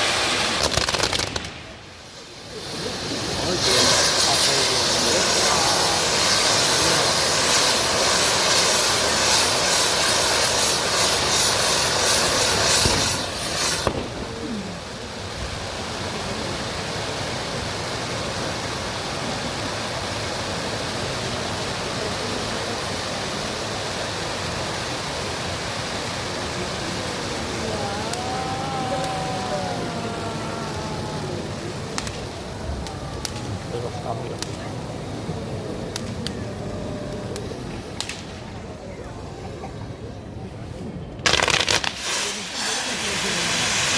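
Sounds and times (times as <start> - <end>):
fireworks crackling and hissing: 0.0 - 43.9
murmur of open square: 0.0 - 43.9.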